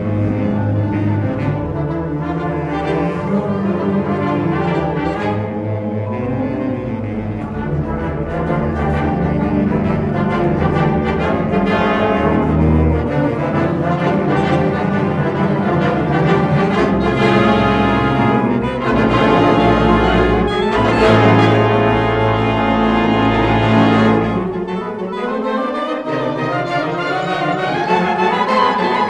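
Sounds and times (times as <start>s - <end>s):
symphonic wind band playing: 0.0s - 29.0s.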